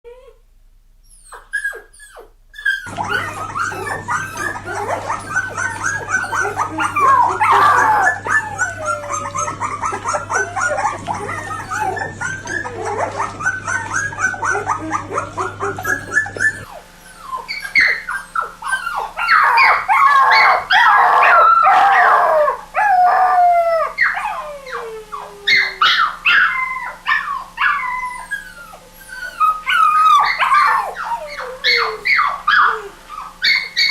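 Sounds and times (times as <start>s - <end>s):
puppies whimpering: 1.1s - 33.9s.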